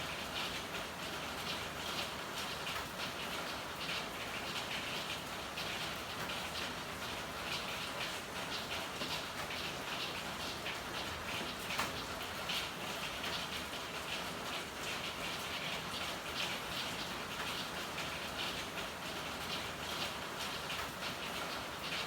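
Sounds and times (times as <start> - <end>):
rain dripping on hard surfaces: 0.0 - 22.0.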